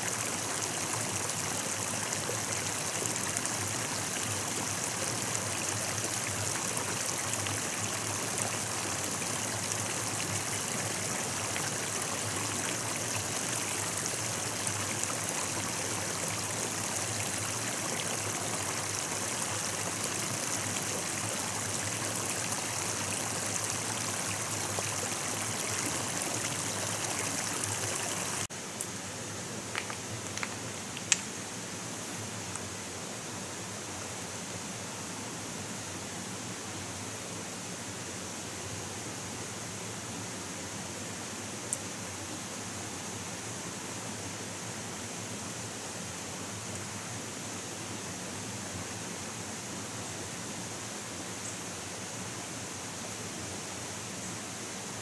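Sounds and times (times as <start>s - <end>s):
stream water running: 0.0s - 33.0s, 40.5s - 55.0s.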